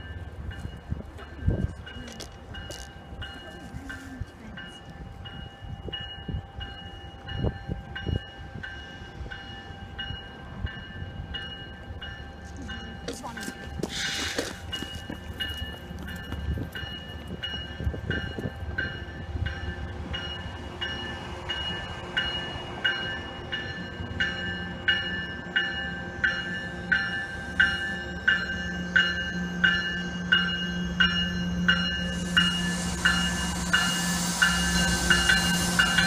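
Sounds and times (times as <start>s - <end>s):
low rumble of train: 0.0s - 36.0s
train warning bell ringing: 0.0s - 36.0s.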